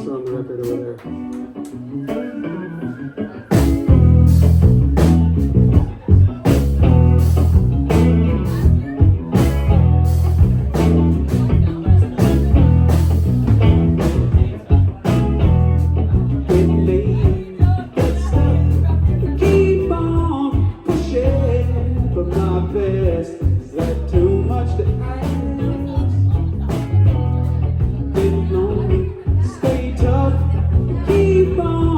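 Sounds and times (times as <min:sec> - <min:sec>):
live rock band playing: 0:00.0 - 0:31.9.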